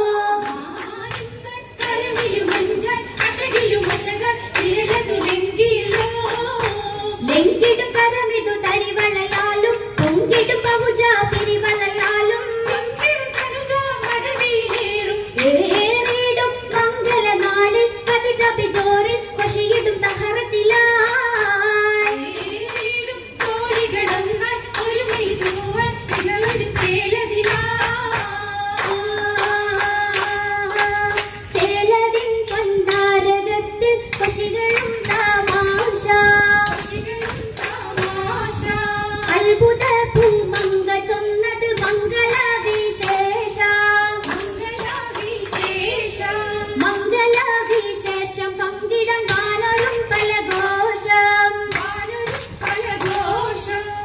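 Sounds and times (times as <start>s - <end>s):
women singing together: 0.0s - 54.0s
hand claps: 0.4s - 40.9s, 41.6s - 54.0s.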